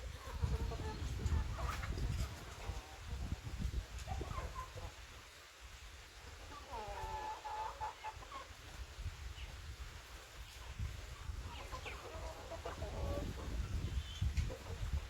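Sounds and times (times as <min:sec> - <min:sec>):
chickens clucking: 0:00.0 - 0:05.4, 0:06.0 - 0:15.0.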